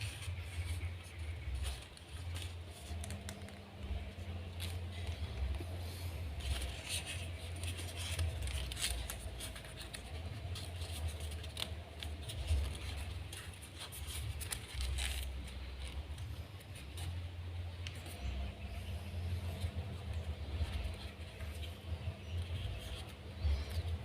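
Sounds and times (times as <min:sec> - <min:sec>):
paper rustling and crackling: 0:00.0 - 0:24.0
steady low rumble: 0:00.0 - 0:24.0.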